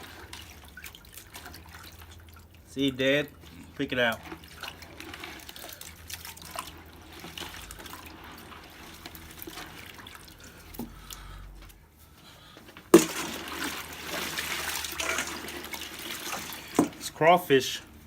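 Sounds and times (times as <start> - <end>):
small water splashes and drips: 0.0 - 11.8, 12.7 - 18.0.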